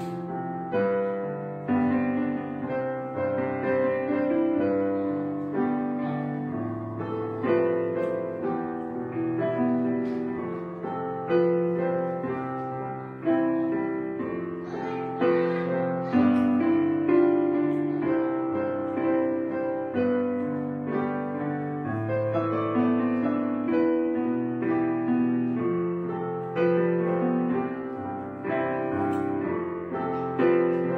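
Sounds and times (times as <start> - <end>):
solo piano piece: 0.0 - 30.9.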